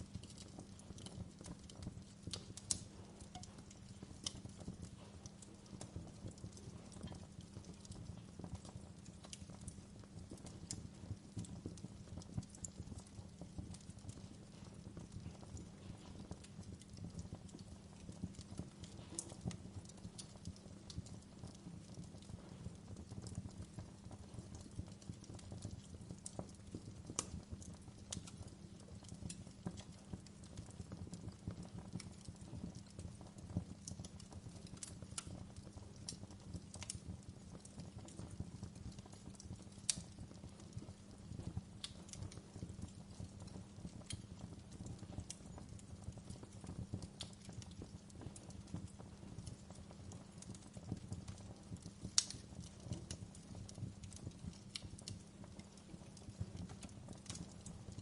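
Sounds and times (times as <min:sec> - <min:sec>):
fire snapping and popping: 0:00.0 - 0:58.0
low rumble of flames: 0:00.0 - 0:58.0.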